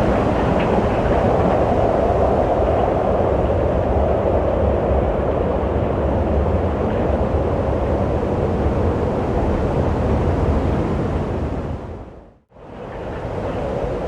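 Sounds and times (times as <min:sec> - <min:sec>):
rushing wind: 0:00.0 - 0:14.0.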